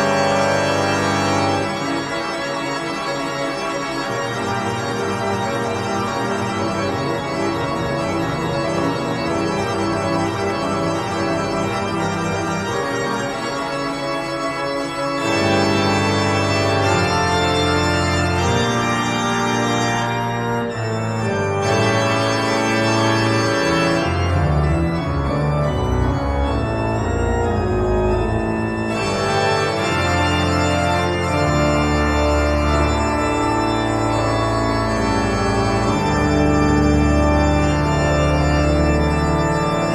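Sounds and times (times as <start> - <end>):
deep bass organ part: 0.0 - 39.9
organ playing slow chords: 0.0 - 39.9.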